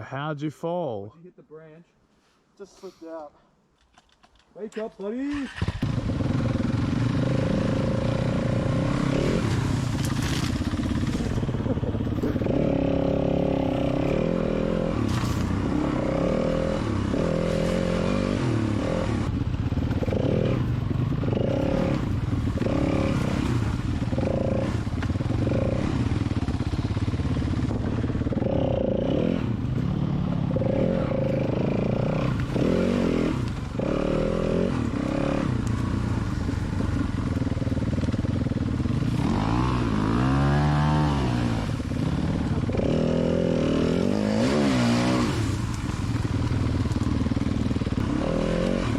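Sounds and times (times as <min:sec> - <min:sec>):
dirt bike engine revving: 0:05.4 - 0:46.5, 0:47.3 - 0:48.9.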